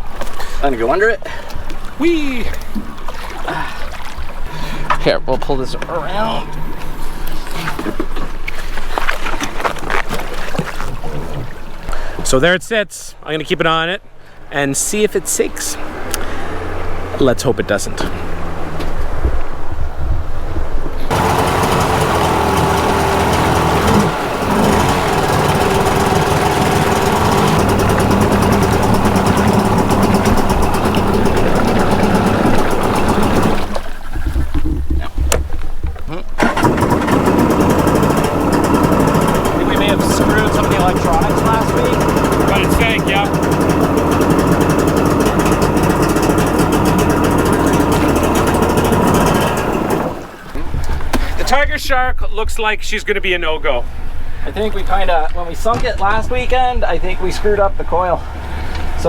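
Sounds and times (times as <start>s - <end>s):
personal watercraft engine running: 0.0s - 12.2s, 15.8s - 51.5s, 53.6s - 59.0s.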